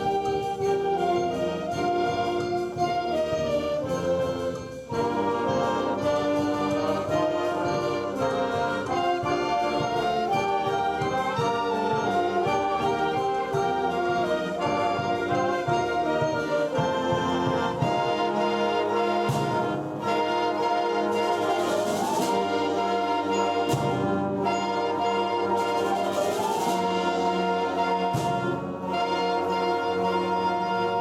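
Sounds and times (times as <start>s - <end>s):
school band playing: 0.0s - 31.0s.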